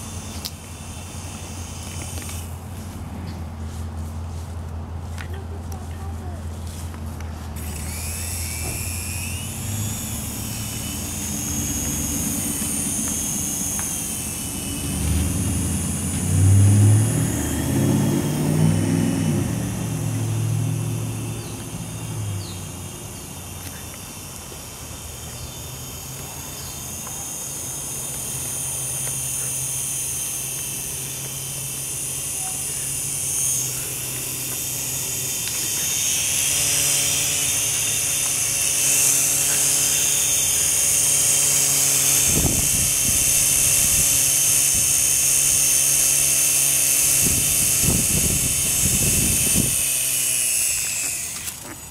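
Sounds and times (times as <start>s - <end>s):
toy helicopter motors whirring: 0.0s - 51.9s.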